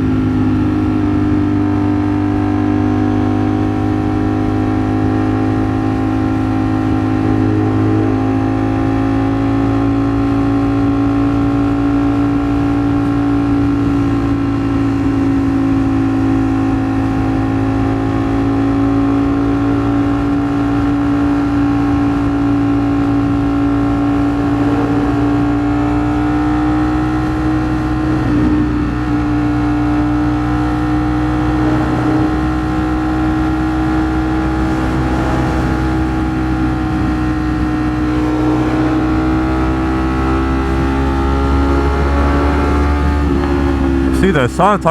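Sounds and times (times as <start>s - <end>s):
motorcycle engine cruising: 0.0s - 44.3s.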